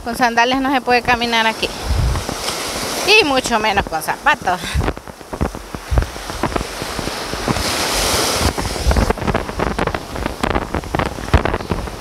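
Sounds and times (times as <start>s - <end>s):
wind buffeting microphone: 0.0s - 12.0s
surf breaking on beach: 0.2s - 12.0s.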